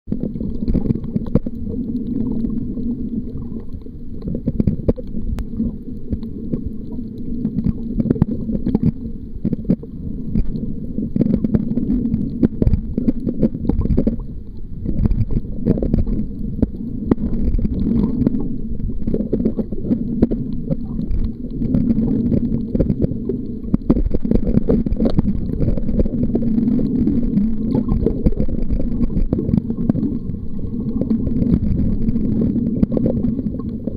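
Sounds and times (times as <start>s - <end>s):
muffled underwater water rumble: 0.1s - 33.9s
sharp clicks and crackles: 0.1s - 33.9s.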